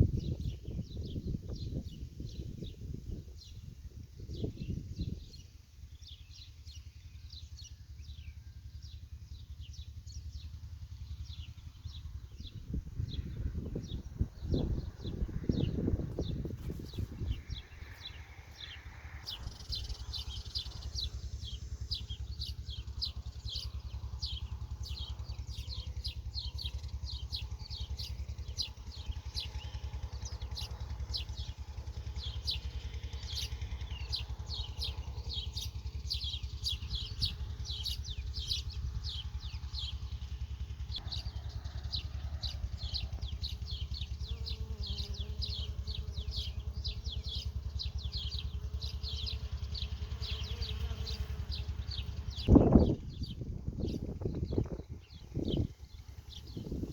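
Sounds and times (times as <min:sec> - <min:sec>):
steady low rumble: 0:10.0 - 0:32.6, 0:33.8 - 0:56.9
birds chirping: 0:11.2 - 0:56.9.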